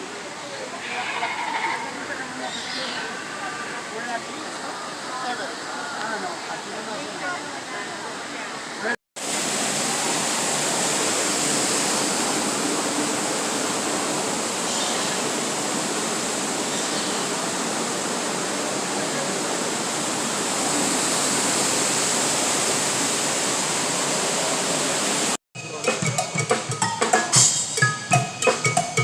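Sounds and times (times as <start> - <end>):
falling water rushing: 0.0 - 25.4.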